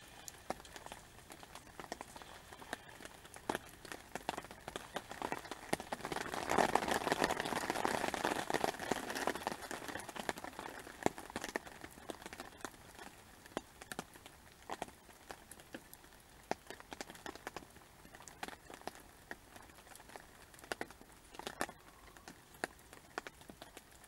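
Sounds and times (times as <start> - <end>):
heavy rain: 0.0 - 24.0
raindrops tapping: 0.0 - 24.0.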